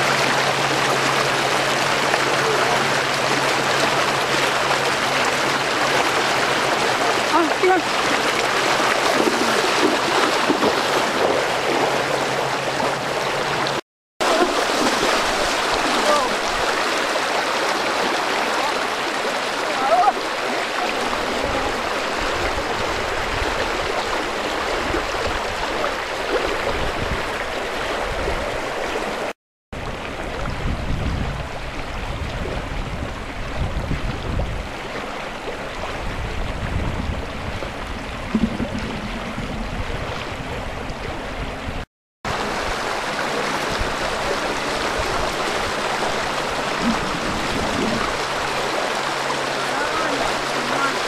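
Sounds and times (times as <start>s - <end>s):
floodwater rushing: 0.0s - 51.0s.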